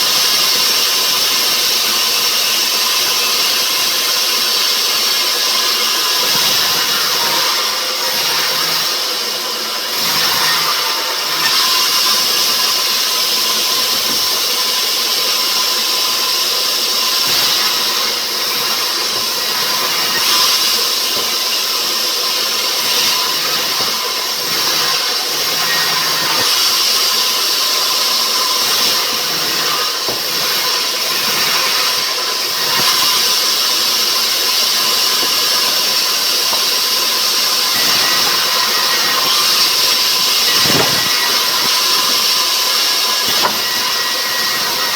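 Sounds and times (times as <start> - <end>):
sawmill machinery running: 0.0 - 44.9.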